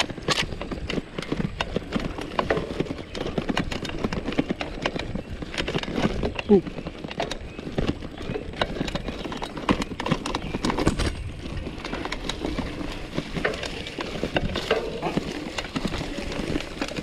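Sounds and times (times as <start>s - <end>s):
bike parts rattling and knocking: 0.0s - 17.0s
tyre rumble on rough ground: 0.0s - 17.0s.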